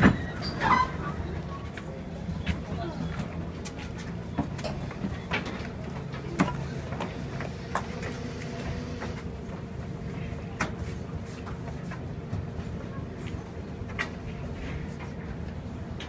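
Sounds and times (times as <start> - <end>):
idling trains humming: 0.0 - 16.0.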